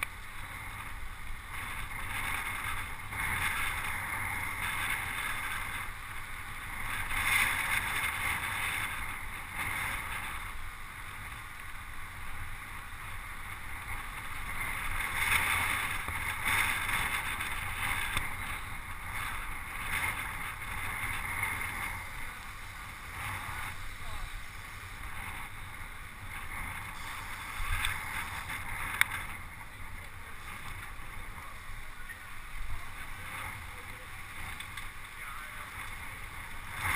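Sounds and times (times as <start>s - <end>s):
low road noise rumble: 0.0s - 36.9s
wind rushing over microphone: 0.0s - 36.9s.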